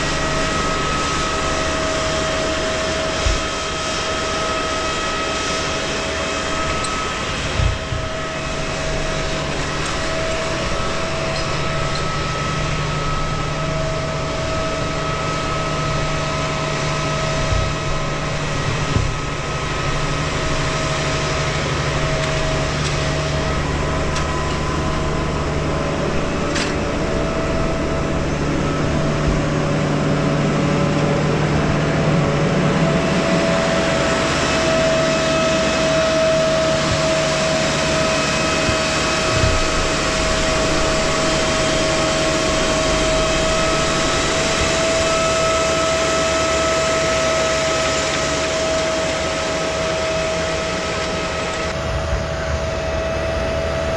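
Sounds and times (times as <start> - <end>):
high whine: 0.0 - 53.9
tractor engine hum: 0.0 - 53.9.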